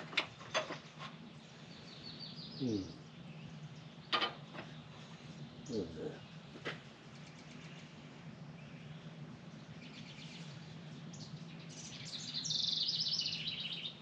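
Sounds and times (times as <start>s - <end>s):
songbird chirping trill: 0.0s - 14.0s
steady low hum: 0.0s - 14.0s.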